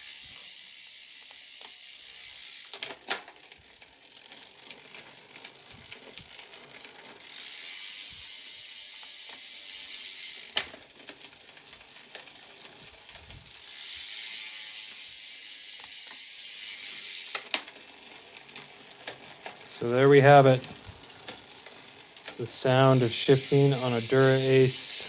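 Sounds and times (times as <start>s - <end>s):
bicycle freehub ratcheting buzz: 0.0s - 25.0s.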